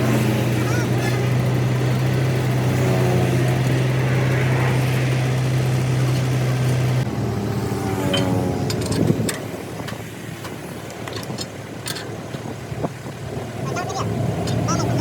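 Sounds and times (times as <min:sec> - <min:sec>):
mechanical drone with low hum: 0:00.0 - 0:15.0.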